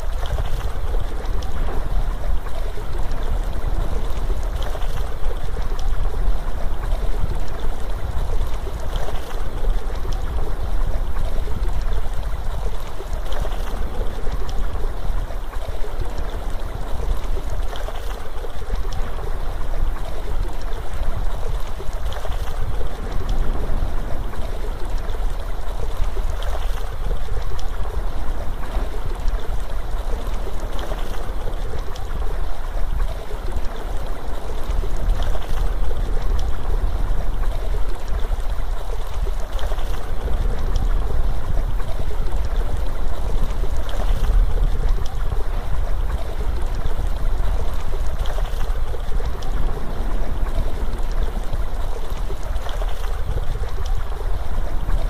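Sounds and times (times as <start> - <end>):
waterfall rushing water: 0.0 - 55.0.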